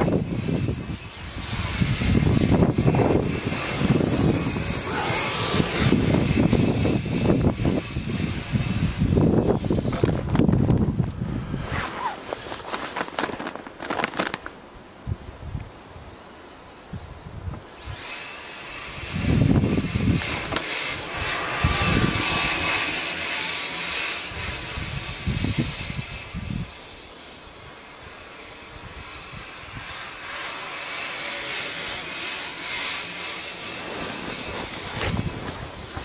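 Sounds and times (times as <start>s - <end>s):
electric motor whine: 0.0s - 12.3s, 17.6s - 36.0s
tracks hissing in snow: 0.1s - 10.6s, 11.2s - 13.1s, 15.8s - 36.0s.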